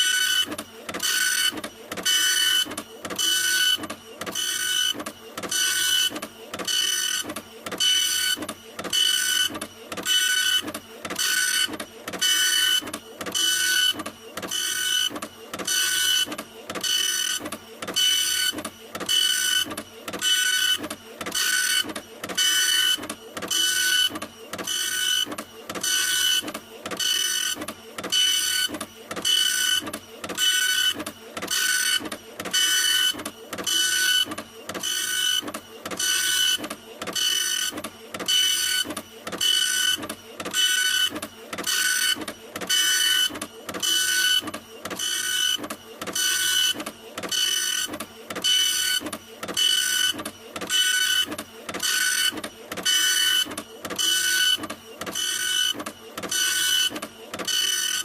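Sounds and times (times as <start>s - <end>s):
printer mechanical stroke with whine: 0.0s - 58.0s.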